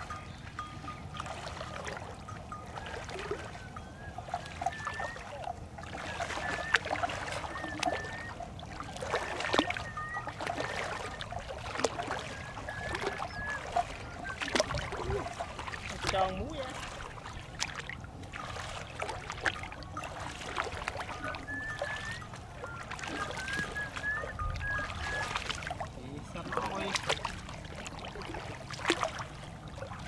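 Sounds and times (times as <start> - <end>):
wading splashes in water: 0.0 - 30.0.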